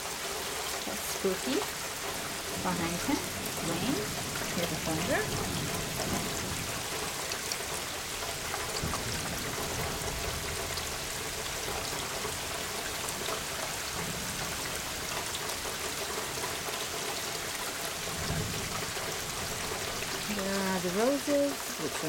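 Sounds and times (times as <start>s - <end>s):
raindrop ticks: 0.0s - 22.0s
steady rain falling: 0.0s - 22.0s.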